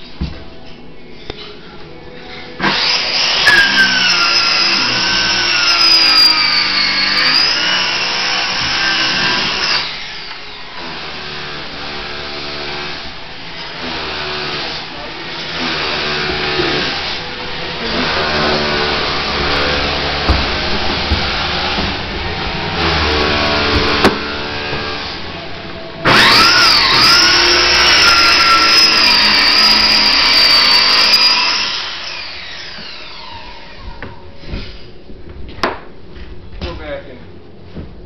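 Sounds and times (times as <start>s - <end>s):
power tool motor whining: 2.6s - 33.9s.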